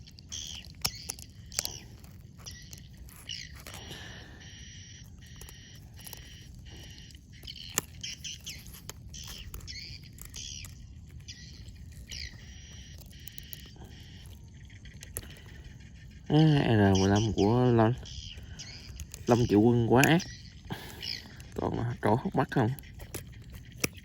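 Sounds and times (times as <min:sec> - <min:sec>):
birds chirping and squawking: 0:00.0 - 0:24.0.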